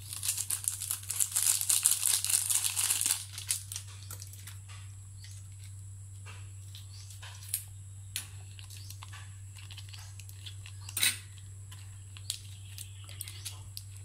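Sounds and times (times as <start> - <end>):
hands clicking and crinkling packets: 0.0 - 5.8, 6.7 - 14.0
low electrical hum: 0.0 - 14.0.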